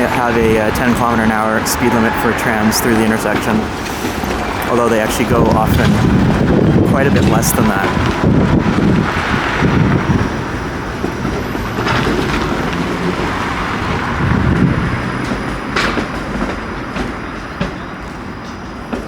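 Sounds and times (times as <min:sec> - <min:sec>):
streetcar rumbling on tracks: 0:00.0 - 0:19.0
streetcar wheels clacking: 0:00.0 - 0:19.0.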